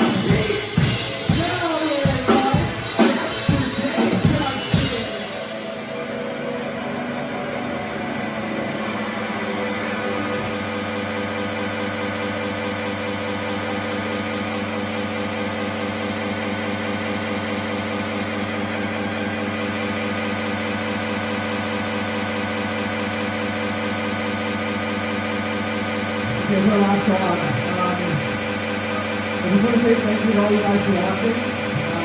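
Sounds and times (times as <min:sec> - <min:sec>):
drone of held tones: 0:00.0 - 0:32.0.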